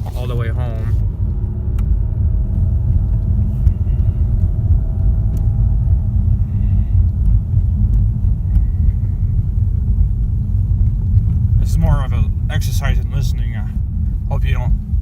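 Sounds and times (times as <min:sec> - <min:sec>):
faint hum: 0:00.0 - 0:15.0
road and tyre rumble: 0:00.0 - 0:15.0.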